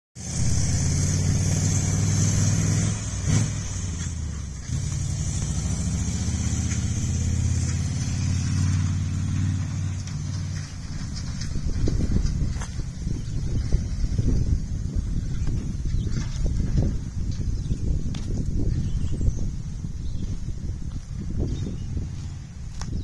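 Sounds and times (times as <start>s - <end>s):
truck engine running: 0.2s - 23.0s.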